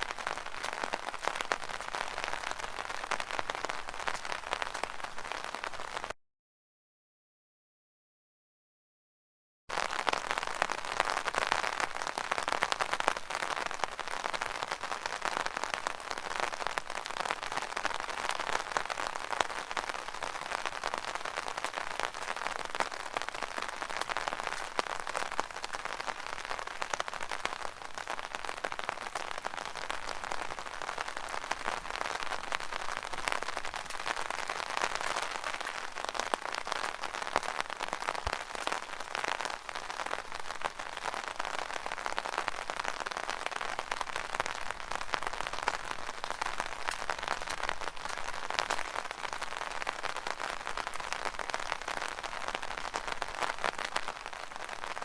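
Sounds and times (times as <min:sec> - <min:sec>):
rain pattering on umbrella: 0:00.0 - 0:06.2, 0:09.7 - 0:55.0.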